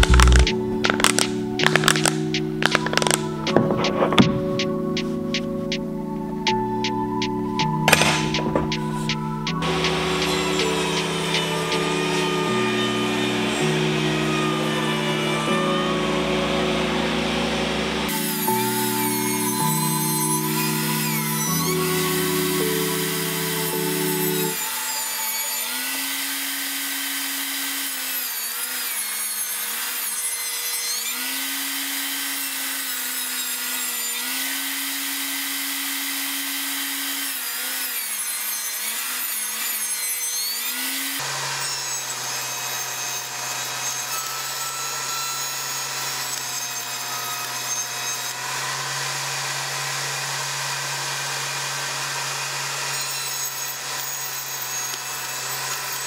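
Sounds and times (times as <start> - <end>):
table saw cutting wood: 0.0 - 56.0.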